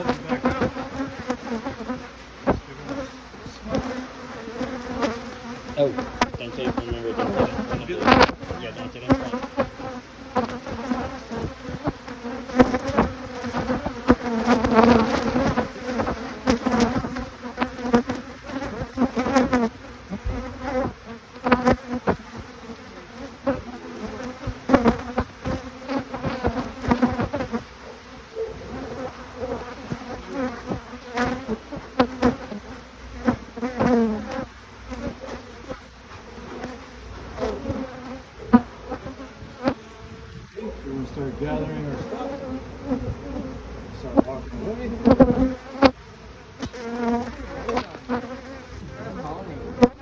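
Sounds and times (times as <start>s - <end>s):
bees flying past: 0.0s - 50.0s
honeybees buzzing: 0.0s - 50.0s.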